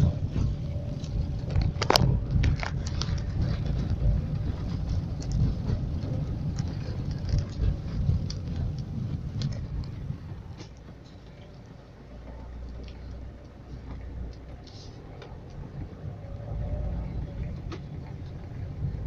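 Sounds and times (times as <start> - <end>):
low street rumble: 0.0 - 19.0
raindrops clicking: 0.0 - 19.0.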